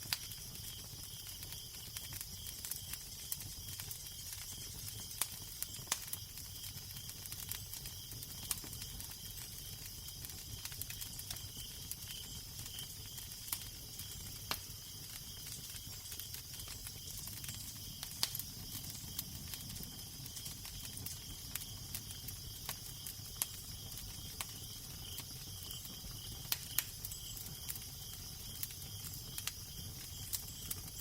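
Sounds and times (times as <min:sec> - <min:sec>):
fire hiss: 0:00.0 - 0:31.0
wood fire crackling and popping: 0:00.0 - 0:31.0.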